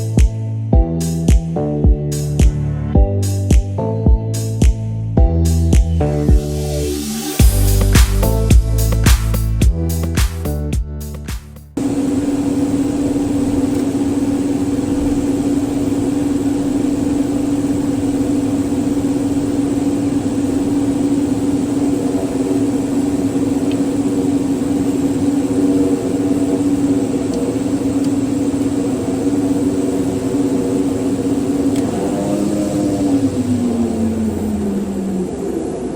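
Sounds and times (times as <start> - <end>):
turboprop engine drone: 0.0 - 10.2, 11.8 - 35.9.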